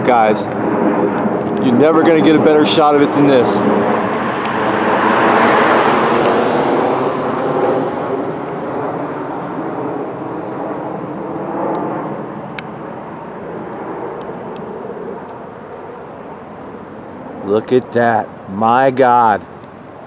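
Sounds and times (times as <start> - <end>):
airplane flying low: 0.0 - 20.0.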